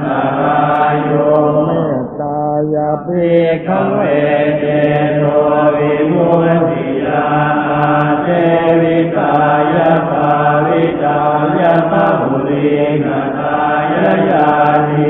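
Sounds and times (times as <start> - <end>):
monotone chanting: 0.0 - 15.0.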